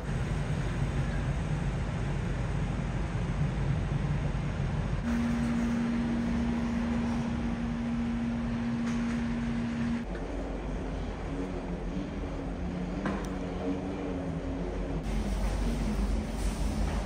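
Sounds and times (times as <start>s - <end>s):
ferry mechanical drone: 0.0s - 17.0s
wind: 0.0s - 17.0s.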